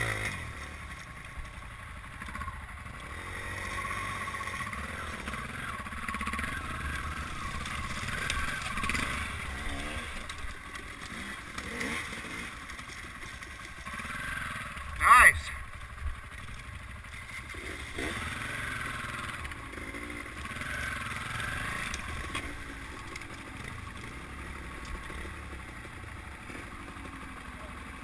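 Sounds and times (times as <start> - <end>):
dirt bike engine revving: 0.0 - 1.1, 1.8 - 28.0.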